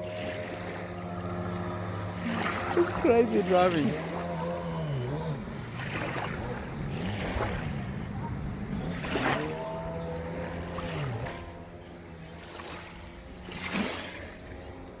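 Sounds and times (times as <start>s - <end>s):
jet ski engine revving: 0.0s - 15.0s
splashing or wind rushes: 0.0s - 15.0s.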